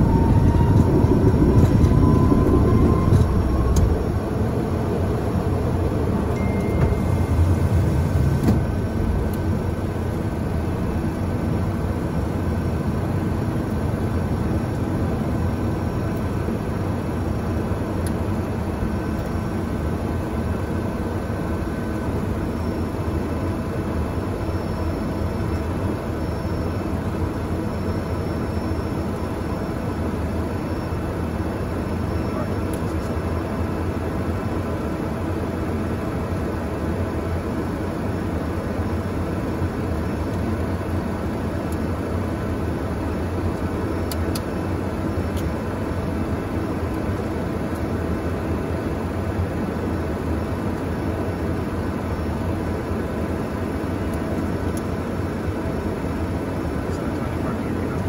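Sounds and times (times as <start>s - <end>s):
small airplane engines and airflow: 0.0s - 58.0s
wheels rumbling on runway: 0.0s - 58.0s.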